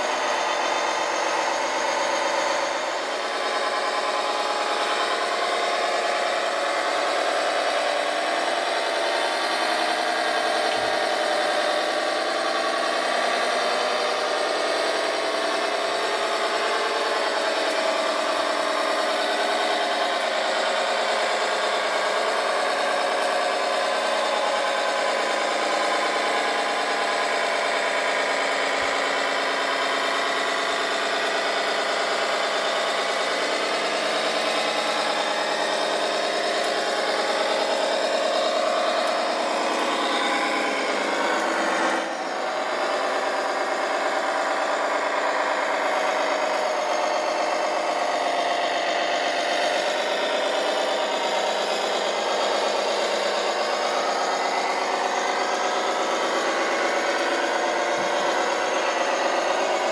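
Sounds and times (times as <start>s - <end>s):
engine-like drone of model machines: 0.0s - 59.9s.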